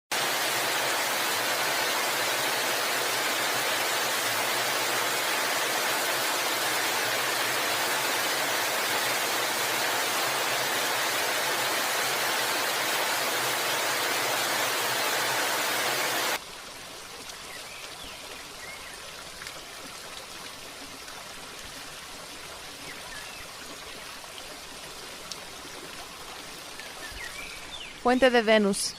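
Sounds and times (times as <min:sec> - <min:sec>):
flowing water rushing: 0:00.1 - 0:28.0.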